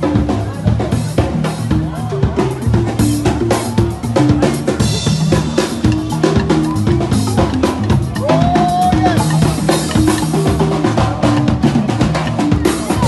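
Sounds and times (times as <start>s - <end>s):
music with drum kit and bass: 0.0s - 13.0s.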